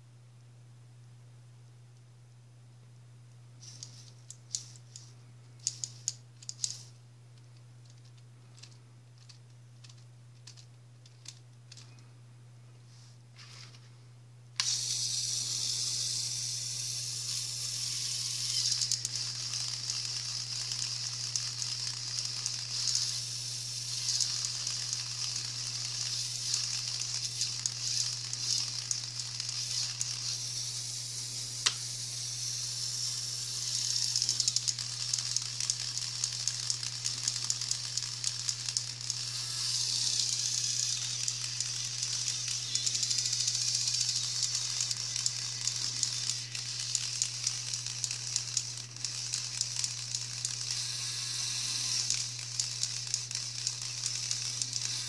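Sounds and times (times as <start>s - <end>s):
plastic gears whirring: 3.6s - 6.9s, 7.8s - 11.8s, 14.6s - 55.0s.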